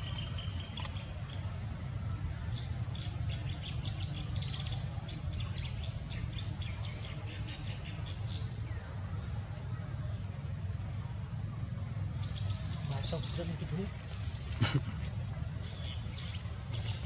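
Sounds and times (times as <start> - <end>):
insect hiss: 0.0 - 17.0.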